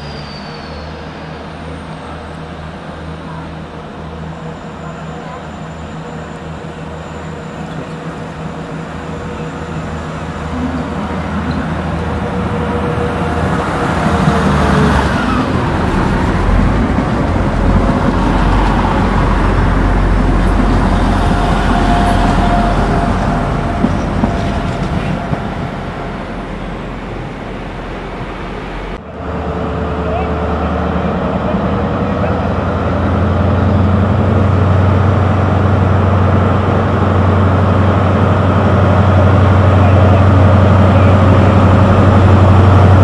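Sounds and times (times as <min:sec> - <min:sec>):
diesel train engine rumble: 0:00.0 - 0:43.0
train wheel and rail noise: 0:00.0 - 0:43.0.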